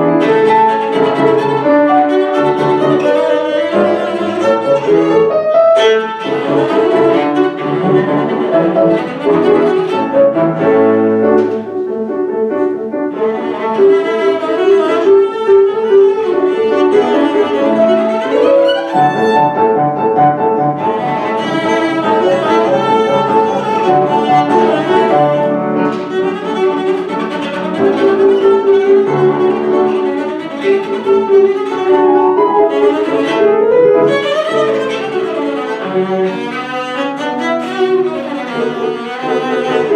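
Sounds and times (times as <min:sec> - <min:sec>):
piano accompaniment: 0:00.0 - 0:39.9
bowed string instrument runs: 0:00.1 - 0:10.7, 0:13.2 - 0:39.9.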